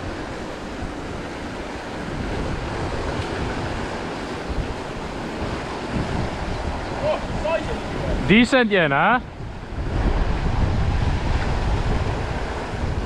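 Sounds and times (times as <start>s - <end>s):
stream water rushing: 0.0s - 13.0s
wind buffeting microphone: 0.0s - 13.0s.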